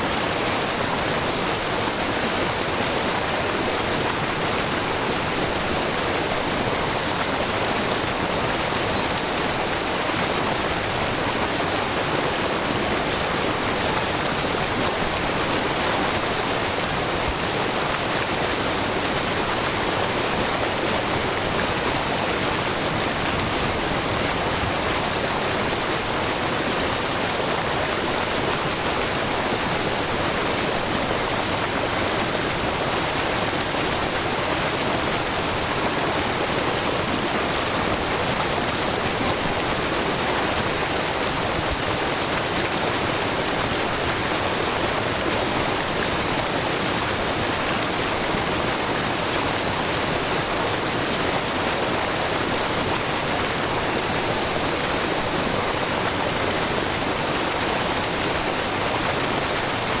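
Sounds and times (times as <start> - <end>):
waterfall rushing and splashing: 0.0 - 60.0.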